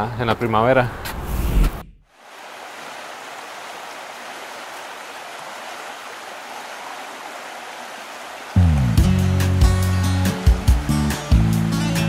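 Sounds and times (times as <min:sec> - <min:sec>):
river water flowing over rocks: 0:02.1 - 0:12.0.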